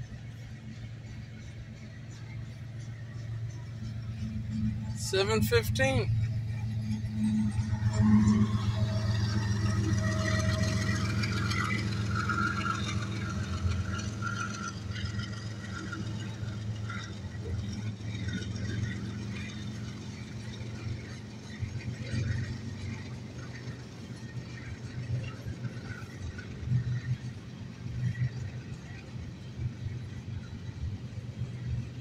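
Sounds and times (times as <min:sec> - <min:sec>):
diesel locomotive engine hum: 0:00.0 - 0:32.0
train cars rattling and clanking: 0:00.0 - 0:32.0.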